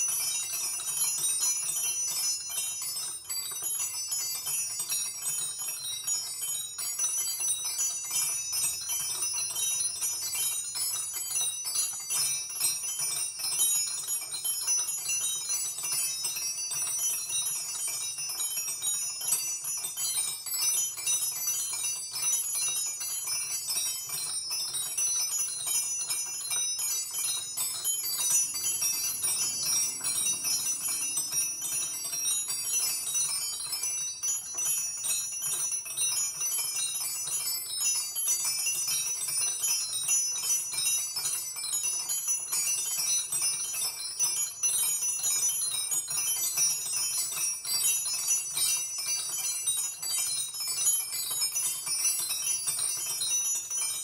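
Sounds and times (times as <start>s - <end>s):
miniature bells ringing: 0.0s - 54.0s.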